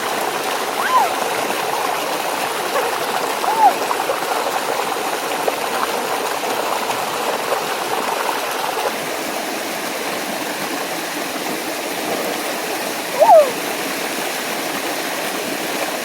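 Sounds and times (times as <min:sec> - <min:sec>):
faint water gurgling: 0:00.0 - 0:16.0
small waterfall and stream: 0:00.0 - 0:16.0.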